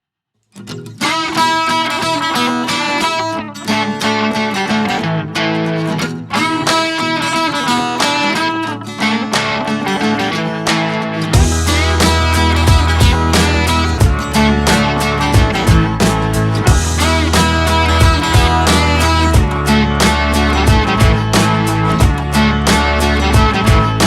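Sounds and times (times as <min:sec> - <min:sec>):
music with strummed guitar: 0:00.4 - 0:24.0.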